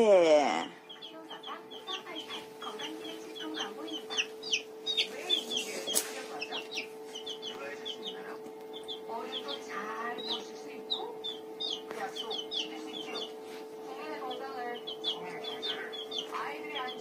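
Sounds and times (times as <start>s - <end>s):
chick peeping: 0.6s - 17.0s.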